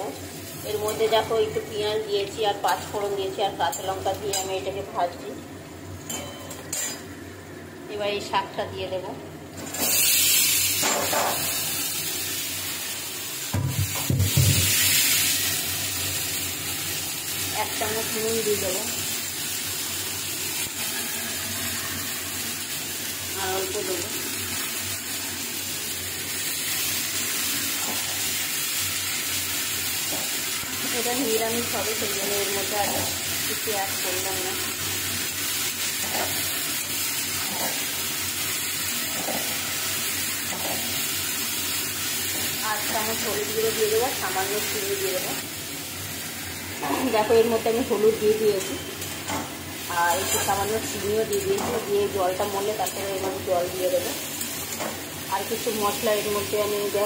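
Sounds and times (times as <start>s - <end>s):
vegetables sizzling in hot oil: 0.0s - 8.6s, 9.5s - 57.0s.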